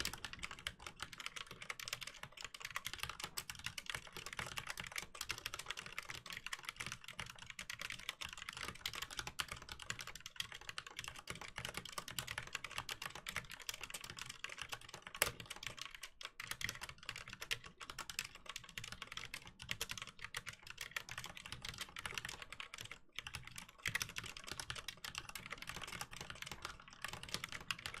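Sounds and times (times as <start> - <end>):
fast mechanical keyboard typing: 0.0 - 28.0.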